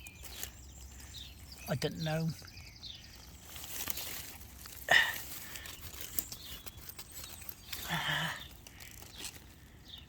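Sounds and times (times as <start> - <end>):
ivy leaves rustling and crackling: 0.0 - 10.0.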